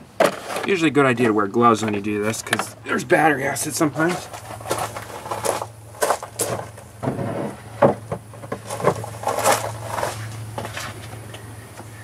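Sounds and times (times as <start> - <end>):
objects clunking and knocking: 0.0 - 2.8, 4.0 - 11.9
steady low hum: 0.0 - 12.0.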